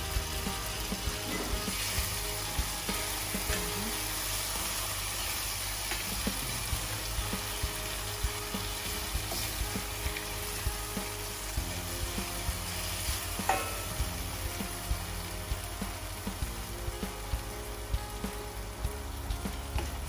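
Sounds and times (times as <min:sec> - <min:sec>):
fish sizzling in a frying pan: 0:00.0 - 0:20.0.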